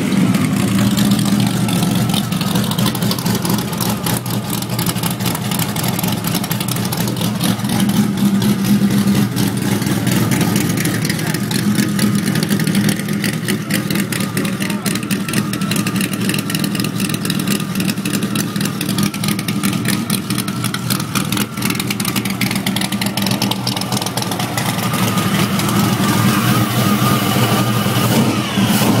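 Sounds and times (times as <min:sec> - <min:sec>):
engine idling: 0:00.0 - 0:29.0
supercharger whine: 0:00.0 - 0:29.0.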